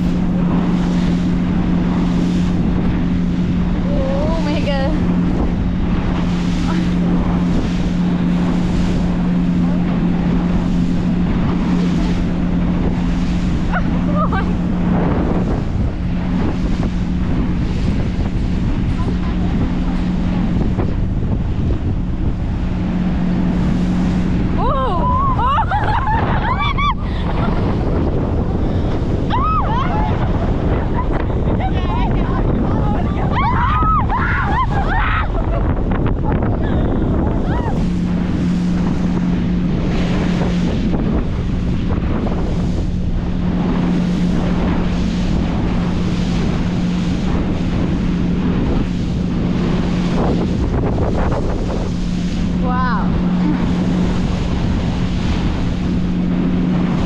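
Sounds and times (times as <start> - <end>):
motorboat engine drone: 0.0 - 57.0
water rushing past: 0.0 - 57.0
wind buffeting microphone: 0.0 - 57.0.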